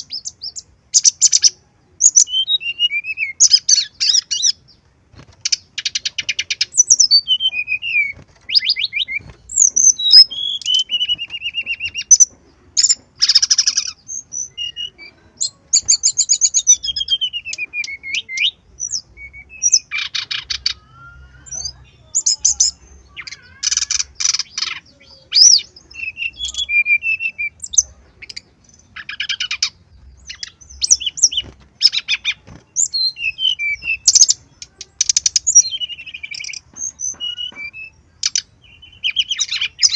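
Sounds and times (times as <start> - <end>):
bird song with trills: 0.0 - 39.9.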